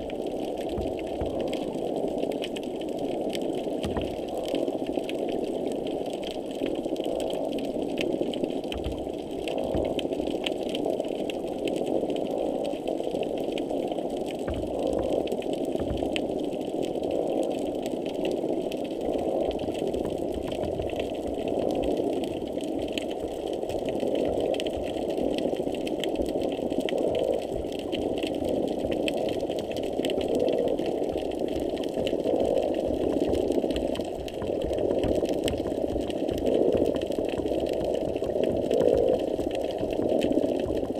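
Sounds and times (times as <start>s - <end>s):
dense underwater hum: 0.0s - 40.9s
sharp underwater clicks: 0.0s - 40.9s.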